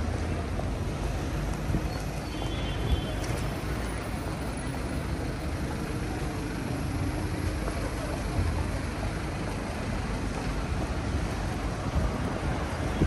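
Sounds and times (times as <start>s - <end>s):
buses and cars passing: 0.0s - 13.0s
traffic noise: 0.0s - 13.0s.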